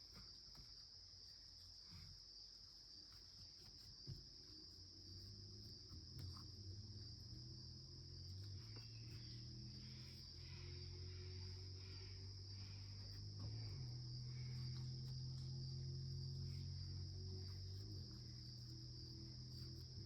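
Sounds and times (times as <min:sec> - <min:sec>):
insects trilling: 0:00.0 - 0:20.0
low steady hum: 0:00.0 - 0:20.0.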